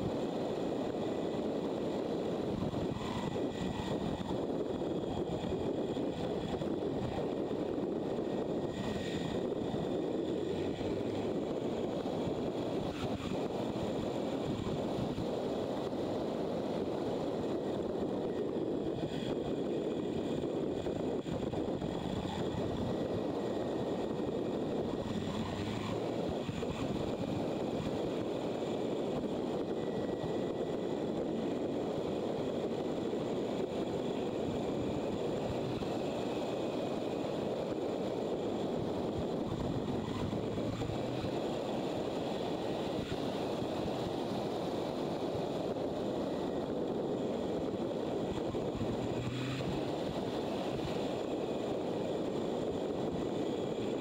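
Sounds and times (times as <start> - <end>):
motorcycle engine and road noise: 0.0 - 54.0
wind rush on microphone: 0.0 - 54.0.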